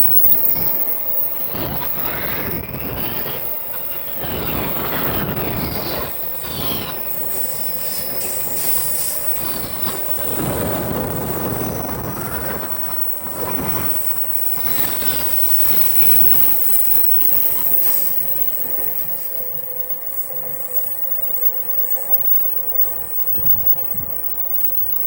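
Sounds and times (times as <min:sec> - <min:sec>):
faint steady hum: 0:00.0 - 0:25.0
train wheels squealing on rails: 0:00.0 - 0:25.0.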